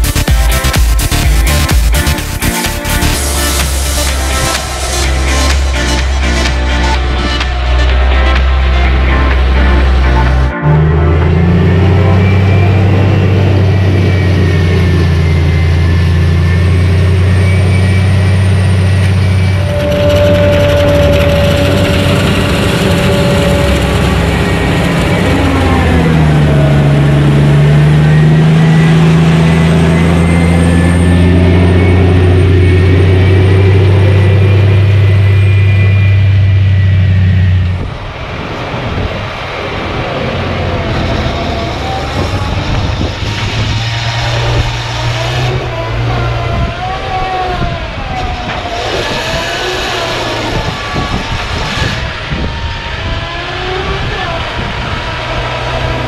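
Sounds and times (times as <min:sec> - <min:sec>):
harvester diesel drone: 0:00.0 - 0:56.0
tractor engine noise: 0:00.0 - 0:56.0.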